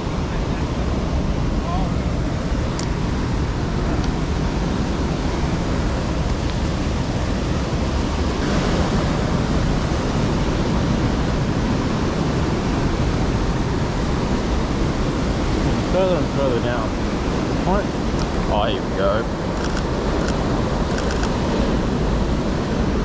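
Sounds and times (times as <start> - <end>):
wind on microphone: 0.0 - 23.0
surf breaking on rocks: 0.4 - 23.0.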